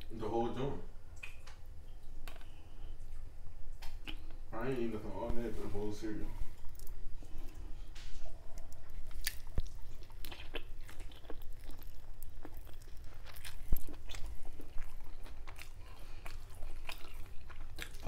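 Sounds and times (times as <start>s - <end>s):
chewing and crunching food: 1.2s - 4.4s, 6.4s - 18.0s.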